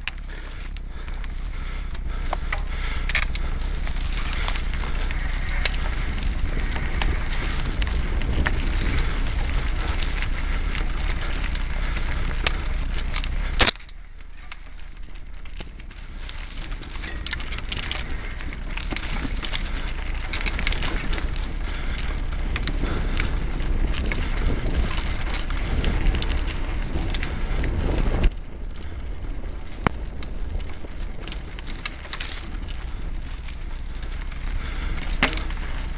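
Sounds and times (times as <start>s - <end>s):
mountain bike rattling on dirt: 0.0s - 35.9s.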